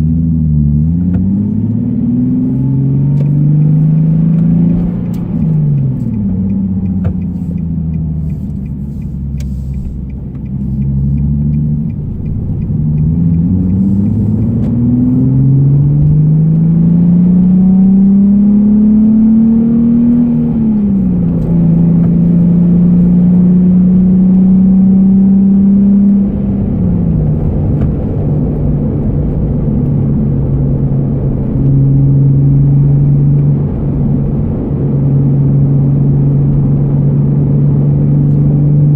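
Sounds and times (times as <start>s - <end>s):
car engine accelerating and shifting: 0.0s - 38.9s.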